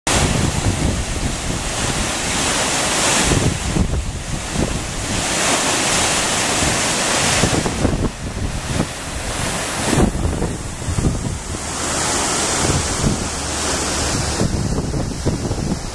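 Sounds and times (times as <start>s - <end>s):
waterfall rushing: 0.1s - 15.9s
wind rumbling on microphone: 0.1s - 15.9s.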